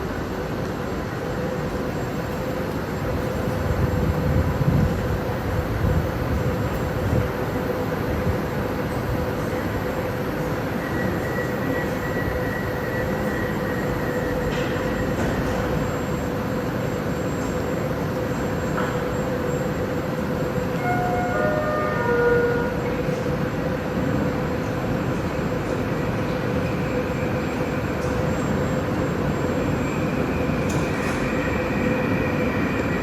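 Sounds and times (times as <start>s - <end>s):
metro train rumbling on rails: 0.0s - 33.0s
train whine: 0.0s - 33.0s.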